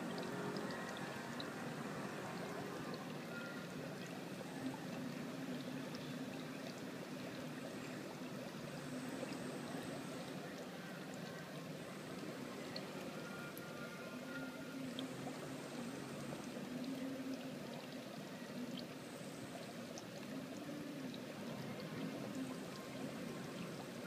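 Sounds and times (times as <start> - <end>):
trickle of running water: 0.0 - 24.0.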